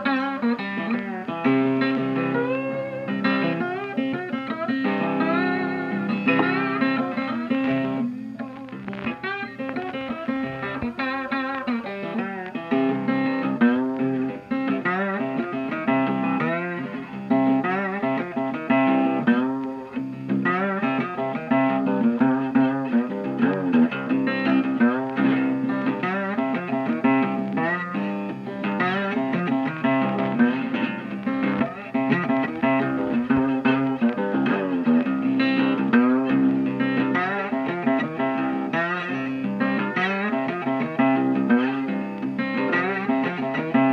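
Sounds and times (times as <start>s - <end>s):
blues guitar lead: 0.0s - 43.9s.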